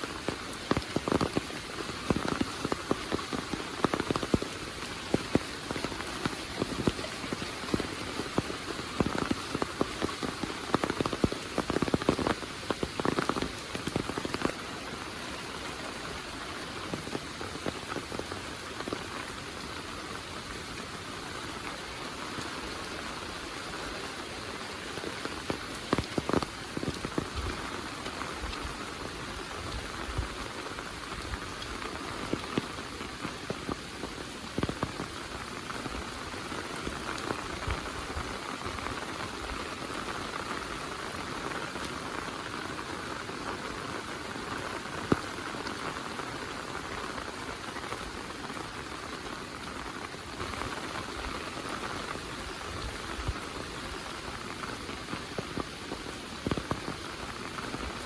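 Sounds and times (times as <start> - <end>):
heavy rain falling: 0.0 - 58.0
raindrops striking close by: 0.0 - 58.0.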